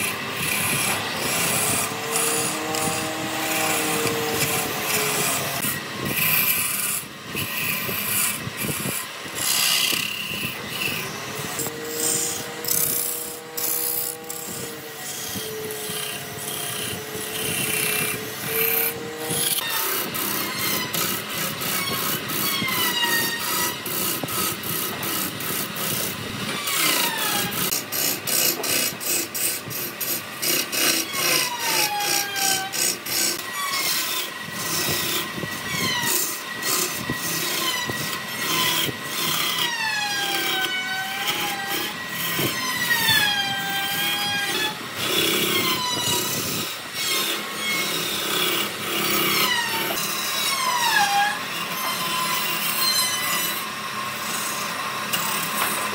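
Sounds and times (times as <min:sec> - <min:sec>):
lathe tool scraping wood: 0:00.0 - 0:55.9.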